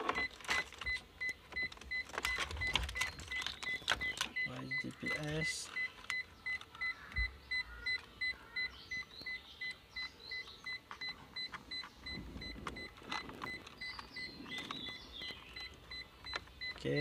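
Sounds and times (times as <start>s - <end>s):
plastic connectors clicking and rustling: 0.0s - 8.2s, 10.8s - 17.0s
car warning buzzer beeping: 0.0s - 17.0s.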